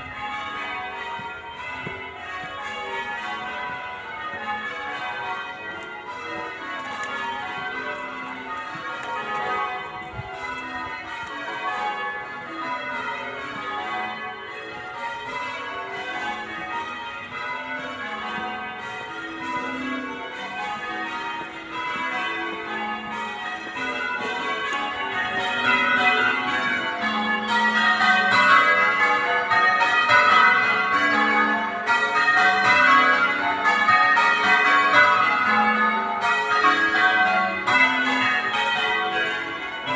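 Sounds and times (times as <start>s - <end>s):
church bells ringing in changes: 0.0s - 39.9s.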